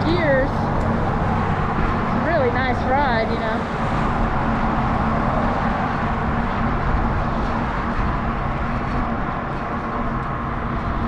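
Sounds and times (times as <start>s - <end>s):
steady low hum: 0.0s - 11.0s
traffic: 0.0s - 11.0s
wind rushing on microphone: 0.0s - 11.0s.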